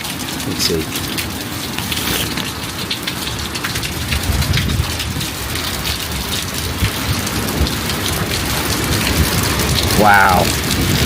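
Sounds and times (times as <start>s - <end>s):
heavy rain on an umbrella: 0.0s - 11.0s.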